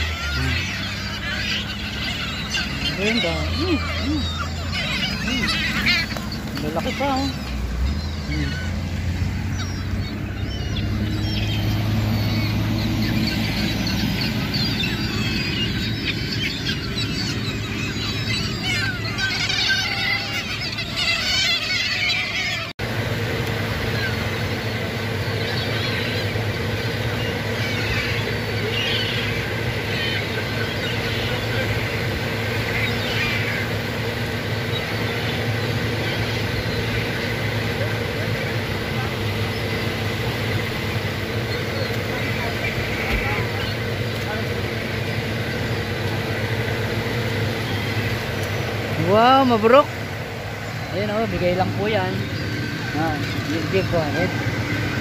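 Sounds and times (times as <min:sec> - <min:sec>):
gulls calling: 0:00.0 - 0:55.0
vehicle engine idling: 0:00.0 - 0:55.0.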